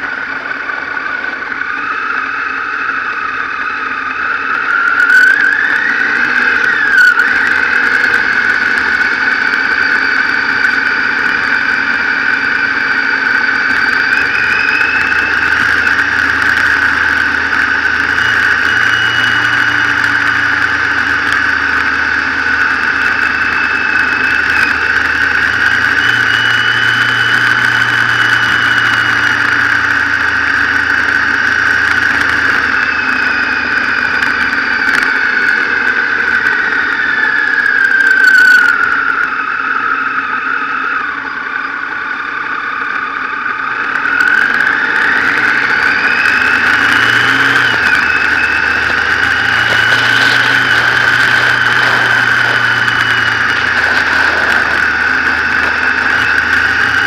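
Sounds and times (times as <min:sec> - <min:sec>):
motorcycle engine whine: 0:00.0 - 0:57.0.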